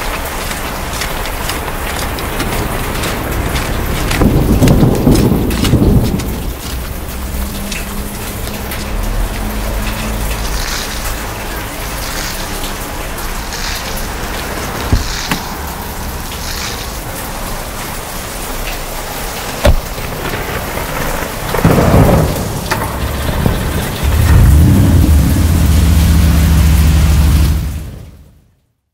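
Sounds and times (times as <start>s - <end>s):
thunder rumbling: 0.0s - 28.4s
rain hissing: 0.0s - 28.5s.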